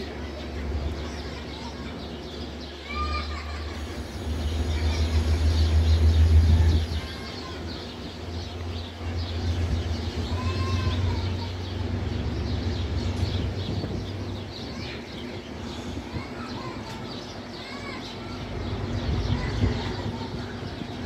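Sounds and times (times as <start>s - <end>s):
train locomotive rumble: 0.0s - 21.0s.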